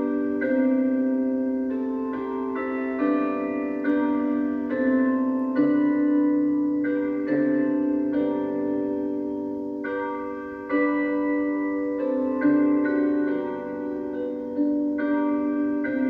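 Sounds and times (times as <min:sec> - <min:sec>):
bell tower chimes: 0:00.0 - 0:16.0.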